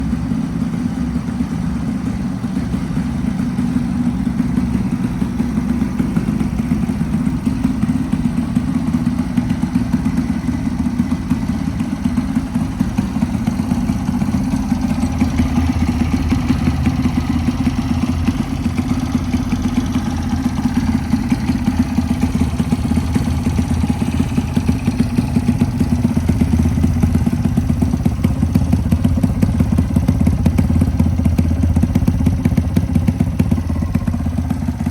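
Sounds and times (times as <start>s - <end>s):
small motorbike engine idling: 0.0s - 34.9s.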